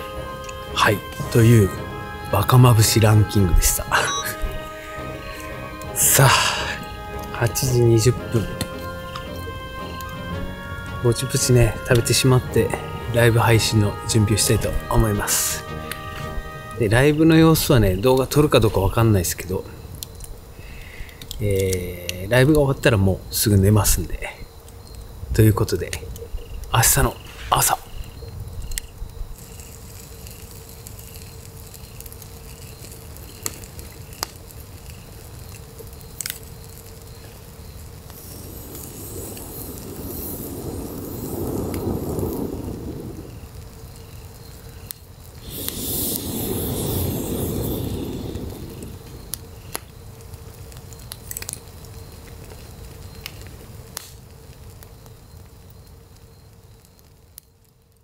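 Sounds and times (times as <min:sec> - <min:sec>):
fire rushing swells: 0:00.0 - 0:21.4, 0:25.6 - 0:54.4
campfire crackling and popping: 0:00.0 - 0:58.0.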